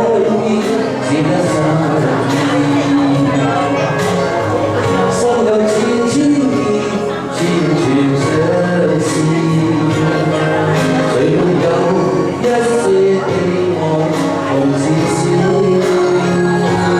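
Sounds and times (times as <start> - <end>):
song with steady beat: 0.0 - 16.9.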